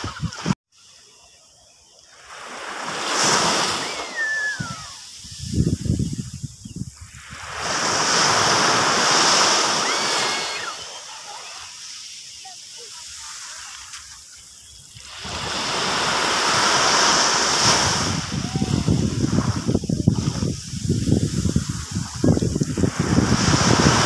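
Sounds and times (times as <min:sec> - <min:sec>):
sea waves breaking on beach: 0:02.1 - 0:05.9, 0:07.0 - 0:24.0.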